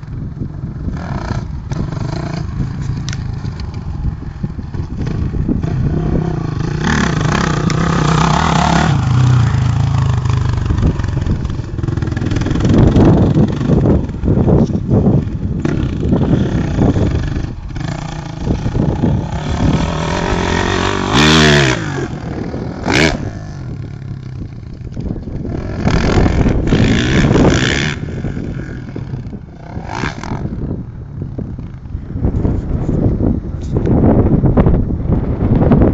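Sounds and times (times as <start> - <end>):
motocross bike engine revving: 0.7 - 24.8, 25.4 - 30.8.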